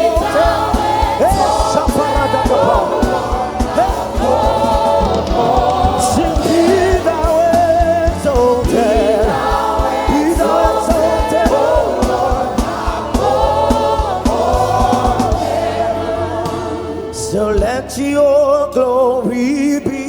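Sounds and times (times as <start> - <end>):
steady drum beat: 0.0 - 18.0
bass guitar: 0.0 - 20.0
choir singing: 0.0 - 20.0.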